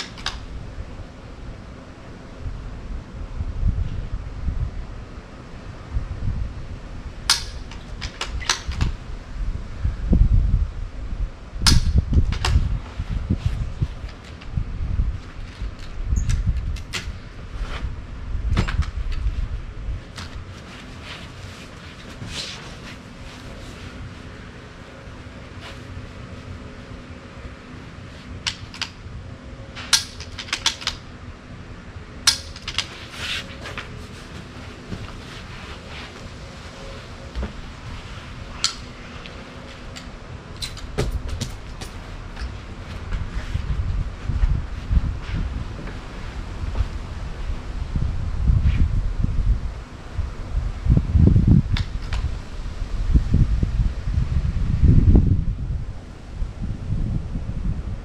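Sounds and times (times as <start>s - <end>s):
wind rumbling on microphone: 0.0s - 58.0s.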